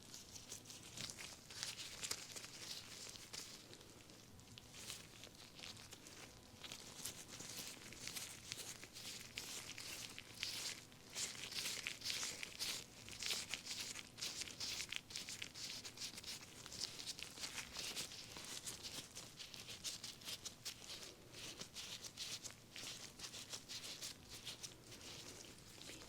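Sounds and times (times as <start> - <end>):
soft rubbing on skin: 0.0 - 26.0.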